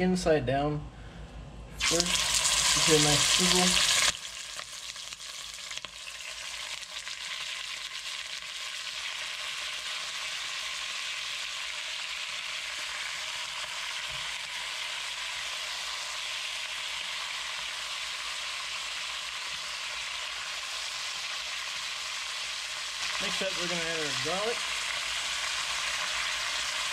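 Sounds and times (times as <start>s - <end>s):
chicken sizzling in oil: 1.8s - 26.9s.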